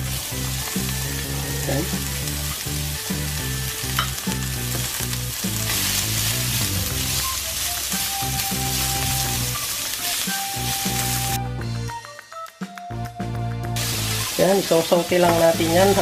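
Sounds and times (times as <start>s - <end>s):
onions sizzling in a frying pan: 0.0s - 11.4s, 13.8s - 16.0s
background music: 0.0s - 16.0s.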